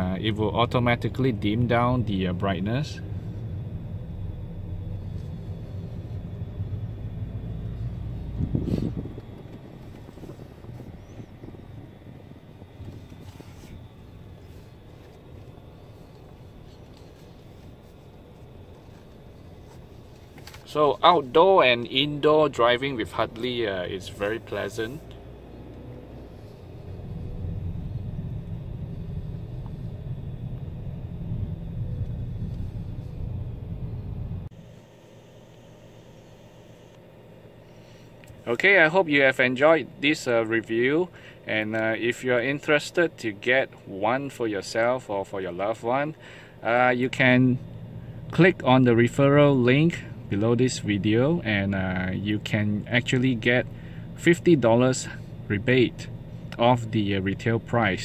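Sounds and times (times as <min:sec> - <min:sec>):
car engine and tyres drone: 0:00.0 - 0:58.0.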